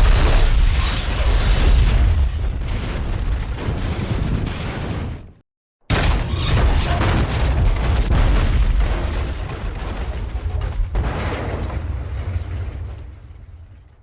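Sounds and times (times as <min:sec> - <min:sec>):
collapse crash and deep rumble: 0:00.0 - 0:14.0.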